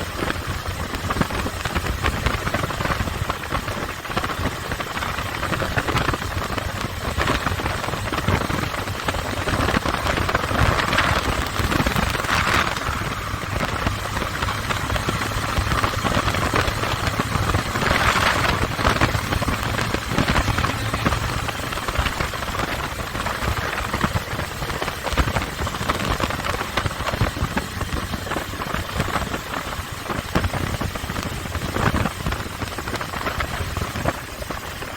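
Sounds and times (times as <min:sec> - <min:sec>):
motorcycle engine rumble: 0:00.0 - 0:34.9
wind noise on microphone: 0:00.0 - 0:34.9.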